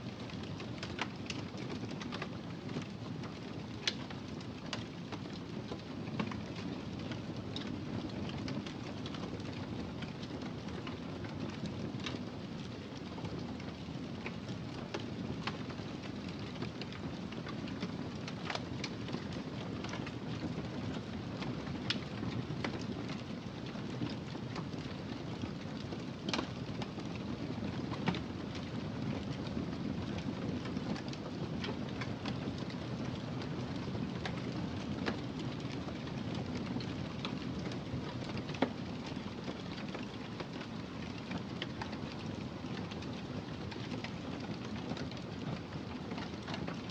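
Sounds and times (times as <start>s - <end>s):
wood fire crackling and popping: 0.1s - 46.9s.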